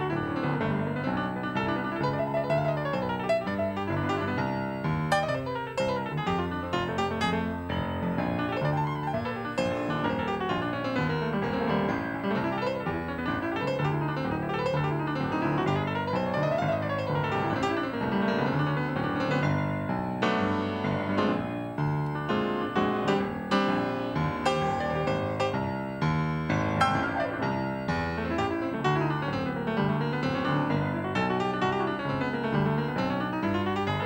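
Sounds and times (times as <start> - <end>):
jazz piano playing: 0.0 - 34.0.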